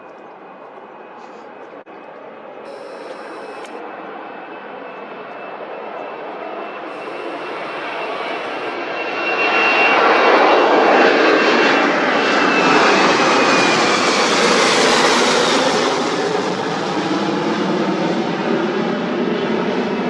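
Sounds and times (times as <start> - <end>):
jet airliner engines passing: 0.0 - 20.0.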